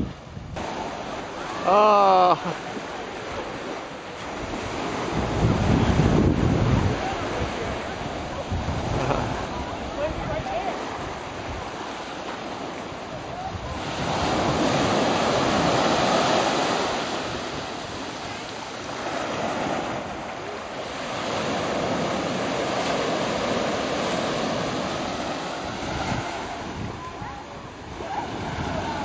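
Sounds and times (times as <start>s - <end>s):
small waves breaking on sand: 0.0s - 29.0s.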